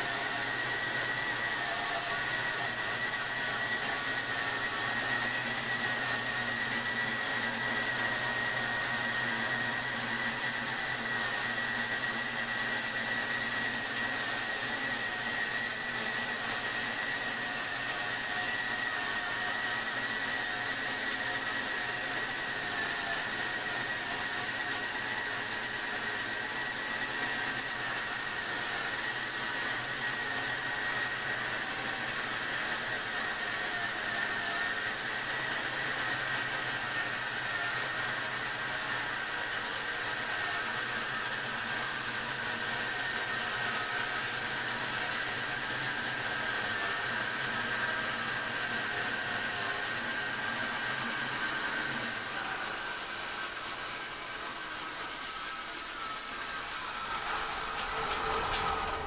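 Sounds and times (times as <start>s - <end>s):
sawmill cutting log with whine: 0.0s - 59.0s.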